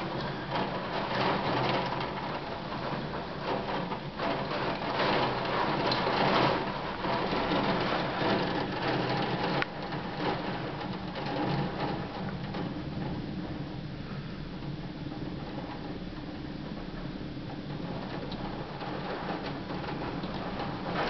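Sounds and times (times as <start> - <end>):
heavy rain downpour: 0.0 - 21.0.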